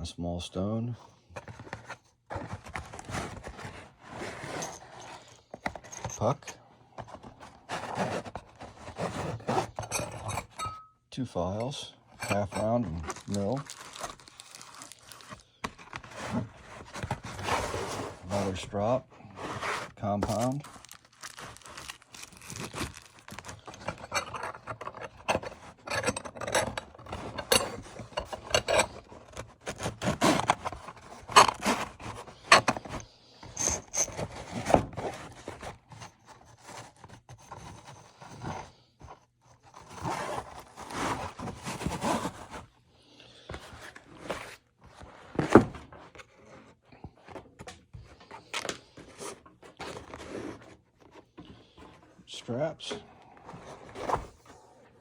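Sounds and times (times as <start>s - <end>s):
tools scraping and rubbing: 1.0s - 42.7s, 43.4s - 52.2s.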